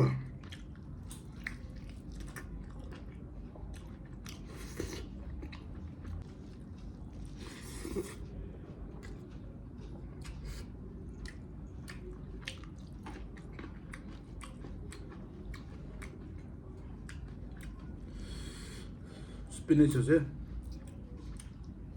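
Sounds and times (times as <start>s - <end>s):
close chewing and mouth smacking: 0.2s - 18.4s, 20.5s - 21.9s.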